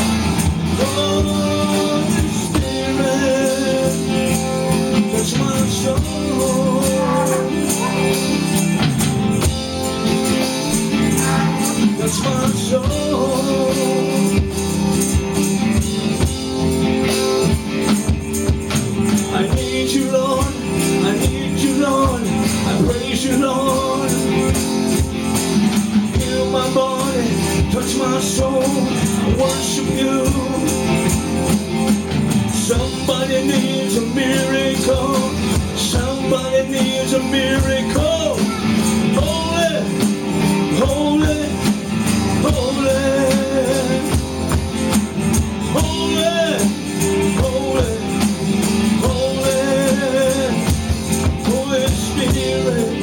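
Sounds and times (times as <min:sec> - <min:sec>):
song with guitar and singing: 0:00.0 - 0:53.0.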